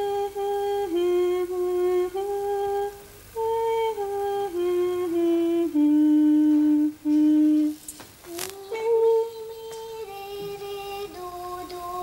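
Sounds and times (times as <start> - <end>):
woman humming: 0.0 - 12.0.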